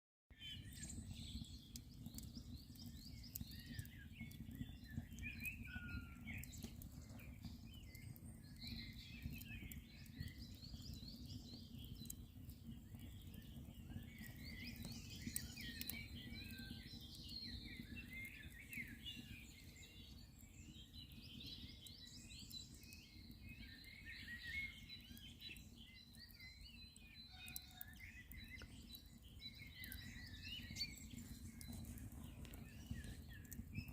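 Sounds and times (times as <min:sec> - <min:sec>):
birds singing and chirping: 0:00.3 - 0:33.9
campfire crackling: 0:00.6 - 0:33.9.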